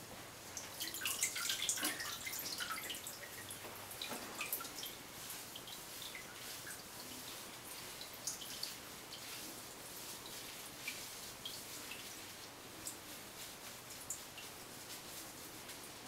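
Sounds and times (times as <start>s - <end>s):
faint steady hiss: 0.0s - 16.0s
water dripping into bathtub: 0.4s - 14.9s.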